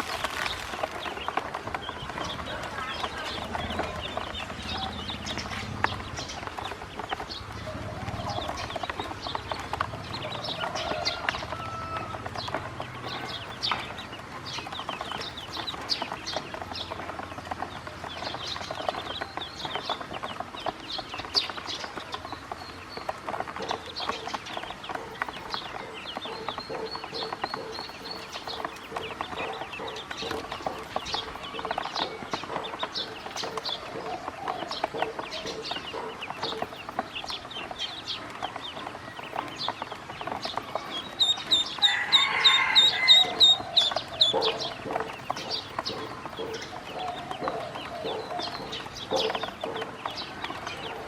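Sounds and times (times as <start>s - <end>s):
ducklings peeping: 0.0s - 51.0s.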